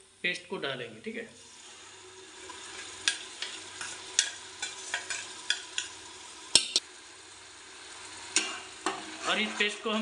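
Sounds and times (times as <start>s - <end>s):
oil sizzling: 1.3s - 10.0s.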